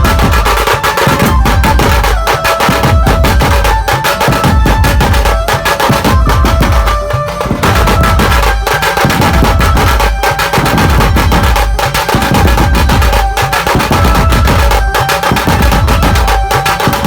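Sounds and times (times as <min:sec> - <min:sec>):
fast dense drumming: 0:00.0 - 0:17.0
keyboard melody: 0:00.0 - 0:17.0.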